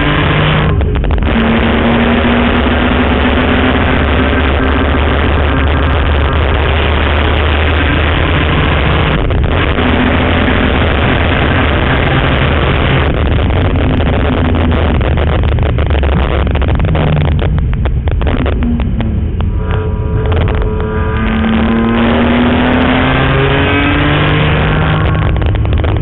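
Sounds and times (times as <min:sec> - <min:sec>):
car engine running hard: 0:00.0 - 0:26.0
road and wind noise: 0:00.0 - 0:26.0.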